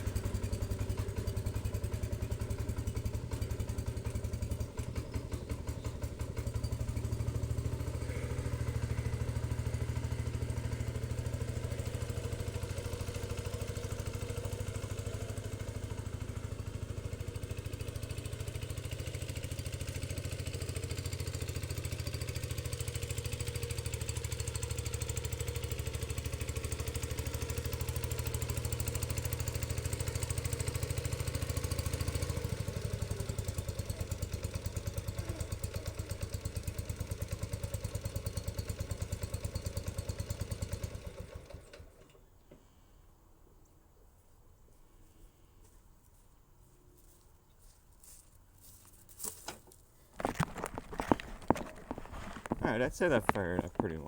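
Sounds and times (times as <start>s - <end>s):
small engine running unevenly: 0.0s - 43.0s, 50.1s - 54.0s.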